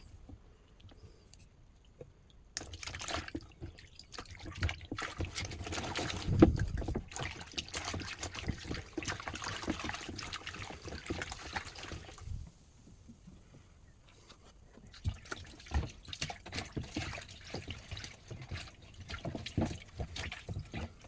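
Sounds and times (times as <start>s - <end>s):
water splashing and trickling: 0.9s - 21.0s.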